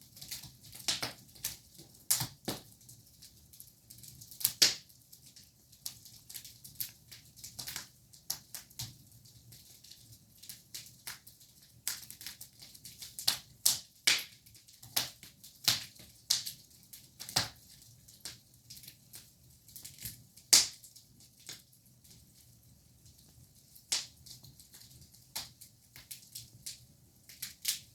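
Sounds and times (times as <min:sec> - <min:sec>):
fire crackling: 0:00.1 - 0:27.9.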